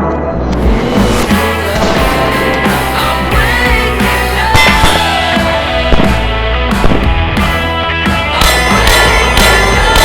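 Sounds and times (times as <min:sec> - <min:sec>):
rock music with drums: 0:00.5 - 0:10.0.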